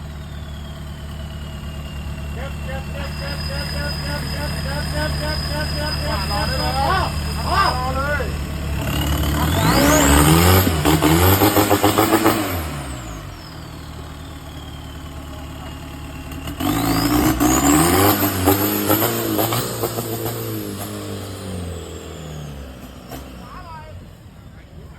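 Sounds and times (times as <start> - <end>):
engine revving with whine: 0.0 - 24.9.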